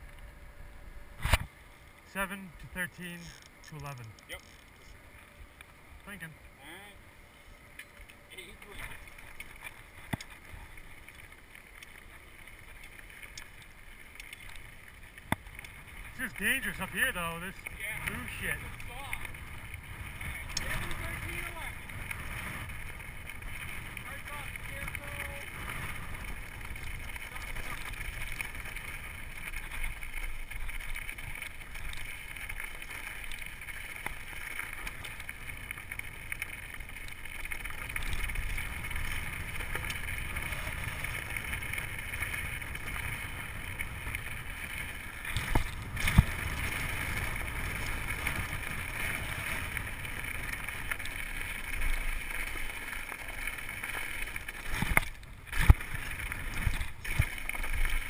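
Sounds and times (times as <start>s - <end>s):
bike tyres rumbling and rattling: 2.8s - 58.0s.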